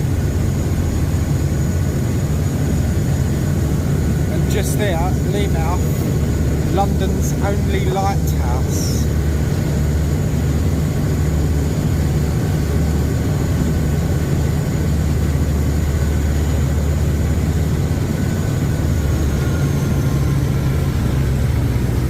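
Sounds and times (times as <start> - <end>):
boat engines droning: 0.0 - 22.0
faint steady whine: 0.0 - 22.0.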